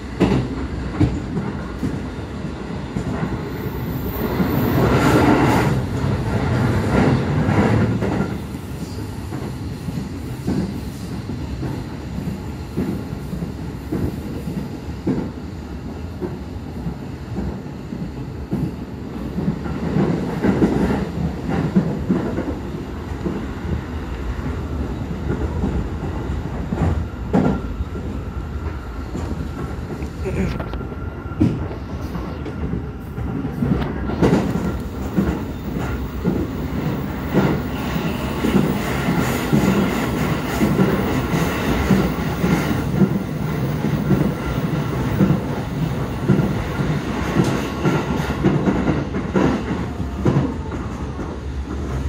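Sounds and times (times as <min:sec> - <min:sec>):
rail joint clicks: 0:00.0 - 0:52.0
train wheels rumbling on rail: 0:00.0 - 0:52.0.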